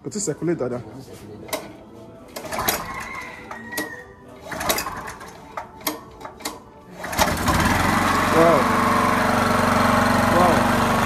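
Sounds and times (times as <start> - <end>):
small generator being cranked: 1.5 - 11.0.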